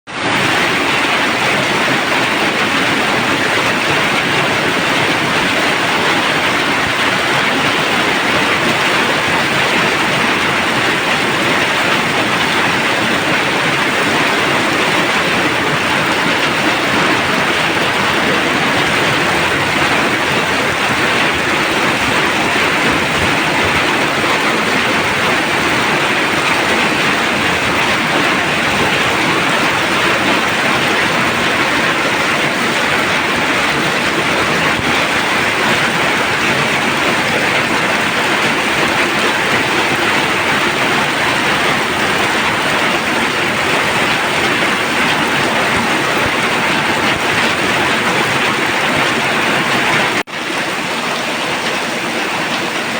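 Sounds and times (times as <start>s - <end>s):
steady rainfall: 0.1s - 52.9s.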